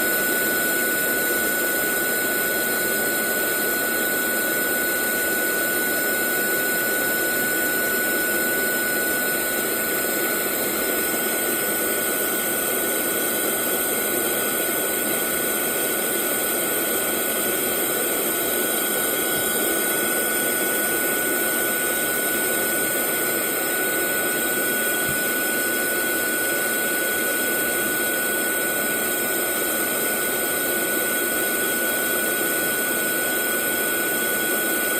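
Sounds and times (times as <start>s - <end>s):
hair dryer blowing with high whine: 0.0s - 34.9s.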